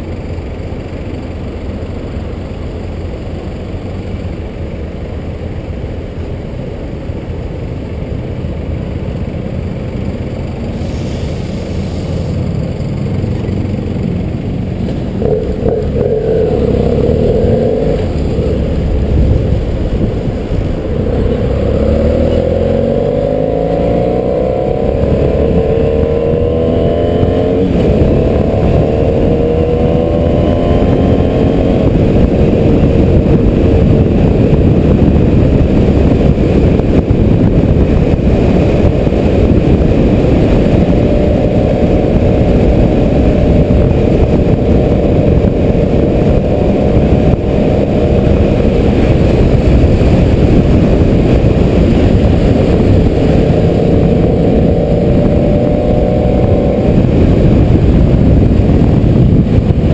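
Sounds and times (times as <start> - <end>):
motorcycle engine accelerating: 0.0 - 59.9
road and wind noise: 0.0 - 59.9.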